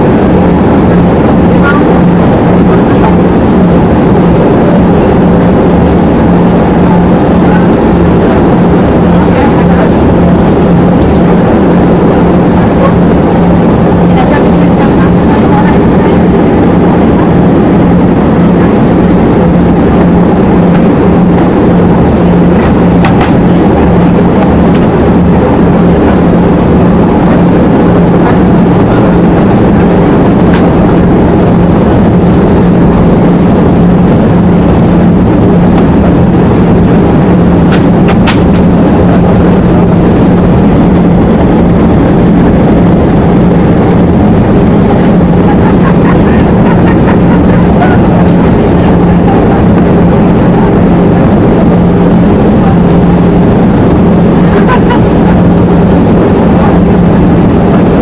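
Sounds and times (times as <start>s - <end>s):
constant low hum: 0.0s - 58.0s
jet engines droning: 0.0s - 58.0s
rushing air: 0.0s - 58.0s.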